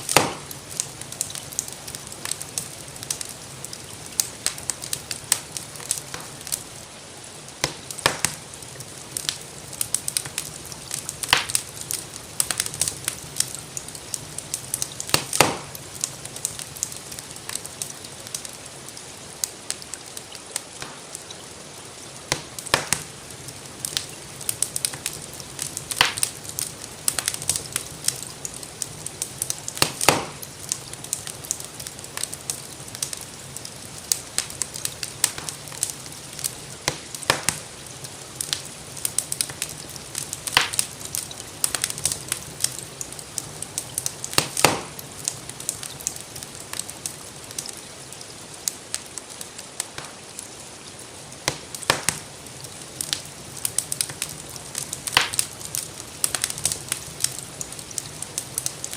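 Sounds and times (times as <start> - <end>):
sharp fire pops: 0.0 - 6.8, 7.5 - 18.6, 20.8 - 21.2, 21.9 - 49.1, 49.8 - 50.3, 51.4 - 58.9
gentle rain hiss: 0.0 - 58.9
wood fire crackling: 0.0 - 58.9.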